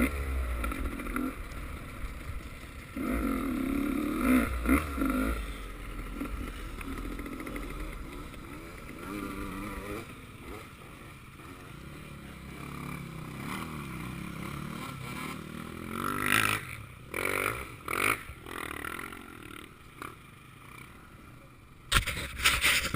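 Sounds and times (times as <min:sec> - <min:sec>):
motocross bike engines revving: 0:00.0 - 0:22.9.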